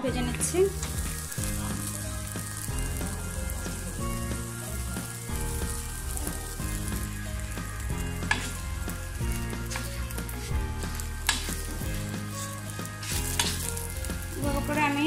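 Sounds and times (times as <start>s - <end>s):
flatbread sizzling in oil: 0.0s - 15.0s.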